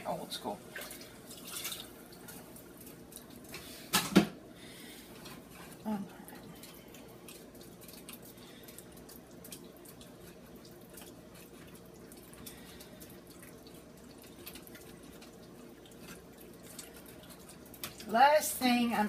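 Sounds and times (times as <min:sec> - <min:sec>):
chili bubbling and popping: 0:00.0 - 0:18.6
low steady hum: 0:00.0 - 0:19.0.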